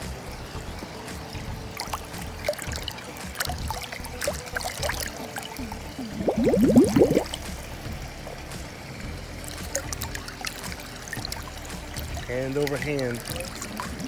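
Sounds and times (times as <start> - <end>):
water gurgling: 0.0 - 14.0
water splashing and trickling: 0.0 - 14.0.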